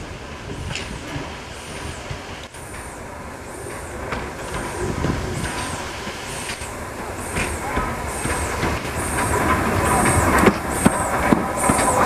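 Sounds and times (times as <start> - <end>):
steam hissing: 0.0 - 12.0
steam locomotive chuffing beat: 0.0 - 12.0.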